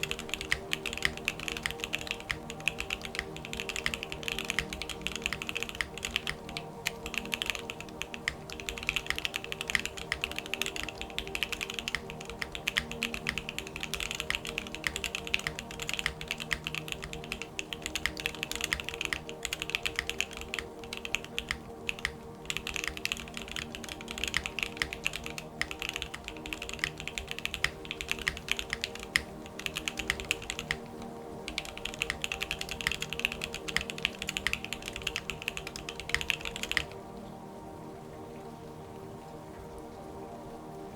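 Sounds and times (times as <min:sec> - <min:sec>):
fast typing on mechanical keyboard: 0:00.0 - 0:30.9, 0:31.5 - 0:37.0.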